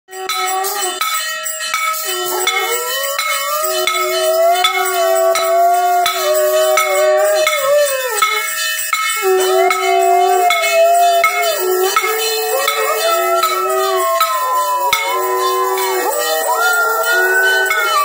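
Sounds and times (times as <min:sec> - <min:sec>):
metal bell struck: 0:00.1 - 0:18.0.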